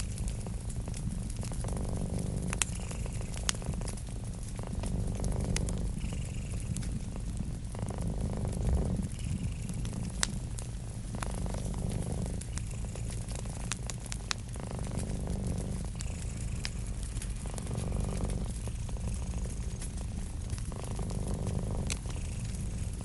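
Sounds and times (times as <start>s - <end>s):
cat purring: 0.0s - 23.0s
wood fire crackling and popping: 0.0s - 23.0s.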